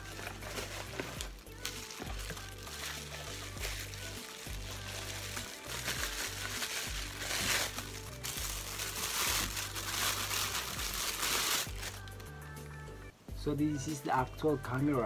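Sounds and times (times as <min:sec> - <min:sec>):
bubble wrap crinkling: 0:00.0 - 0:12.5
soft background music: 0:00.0 - 0:15.0.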